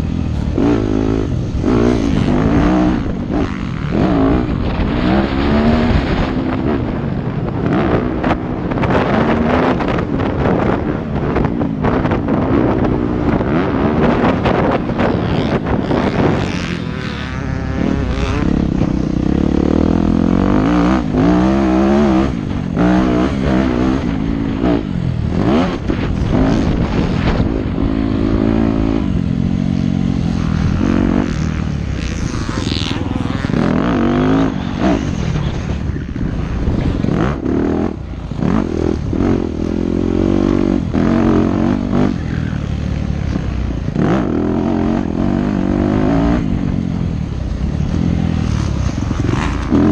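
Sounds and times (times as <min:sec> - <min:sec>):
motocross engine revving: 0:00.0 - 0:49.9.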